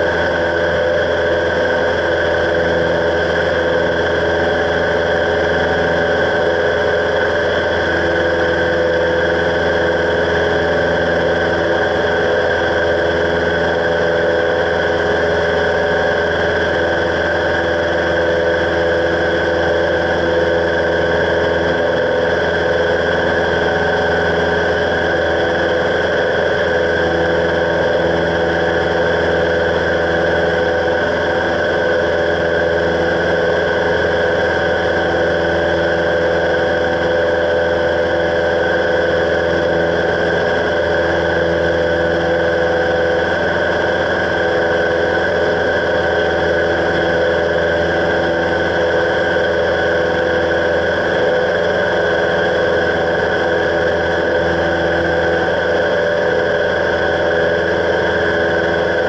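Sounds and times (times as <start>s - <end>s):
airplane engine droning: 0.0s - 59.0s.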